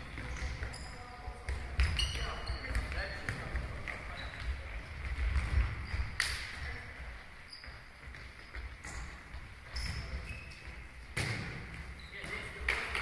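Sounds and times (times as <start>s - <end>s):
football kicked in hall: 0.0s - 6.8s, 7.6s - 13.0s
trainers squeaking on floor: 0.0s - 12.7s.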